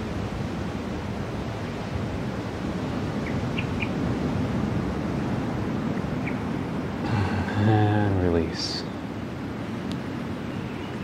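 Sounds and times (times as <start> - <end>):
surf washing: 0.0 - 11.0.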